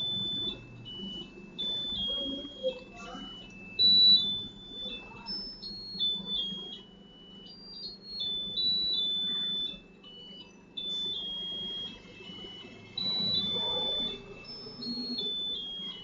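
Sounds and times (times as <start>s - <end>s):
electronic beeping melody: 0.0s - 16.0s
low steady hum: 0.0s - 16.0s.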